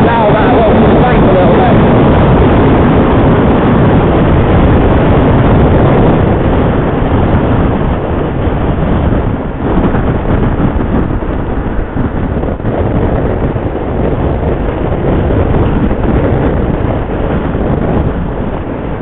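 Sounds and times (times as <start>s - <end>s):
wind rush and riding noise: 0.0s - 19.0s.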